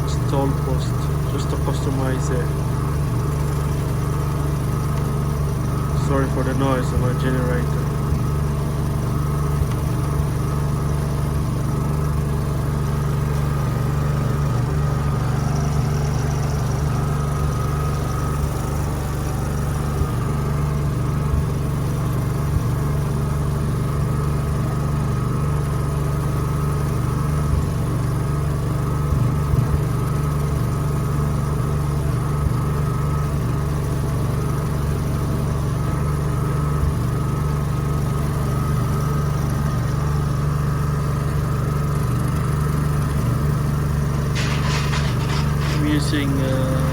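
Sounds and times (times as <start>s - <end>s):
generator engine running: 0.0s - 46.9s.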